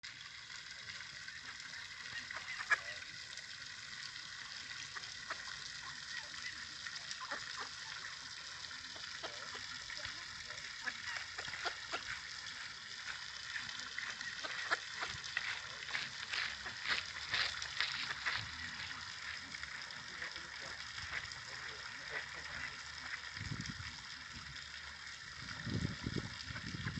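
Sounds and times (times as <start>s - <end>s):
waterbirds calling: 0.3s - 26.9s.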